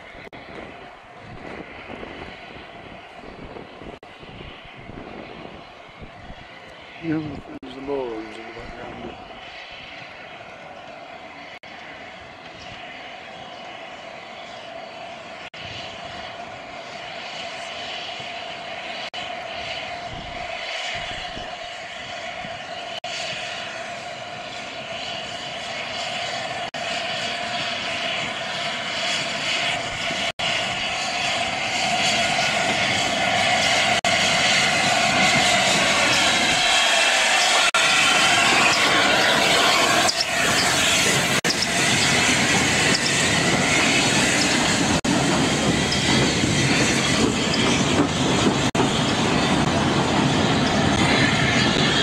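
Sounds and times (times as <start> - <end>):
steam train passing: 0.0 - 52.0.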